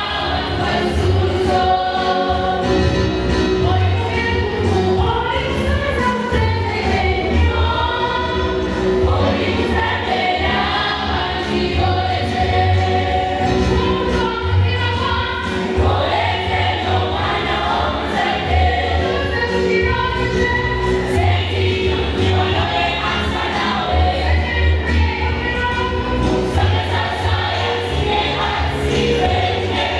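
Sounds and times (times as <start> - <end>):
choir singing: 0.0 - 4.0, 6.4 - 29.9.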